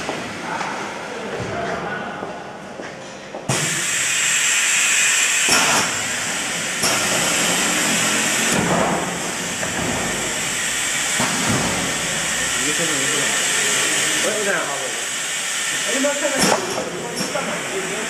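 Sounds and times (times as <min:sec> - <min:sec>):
welding machine hissing: 0:03.5 - 0:18.0.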